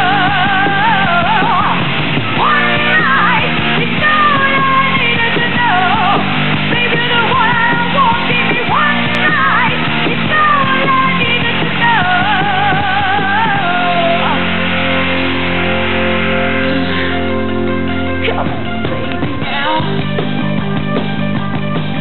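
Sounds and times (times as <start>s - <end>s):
bass guitar: 0.0s - 22.0s
distorted electric guitar solo: 0.0s - 22.0s
drums: 0.0s - 22.0s.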